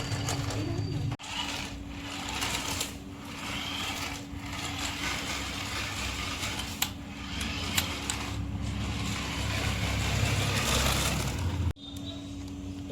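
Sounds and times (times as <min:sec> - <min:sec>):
toy truck motor whirring: 0:00.0 - 0:11.8.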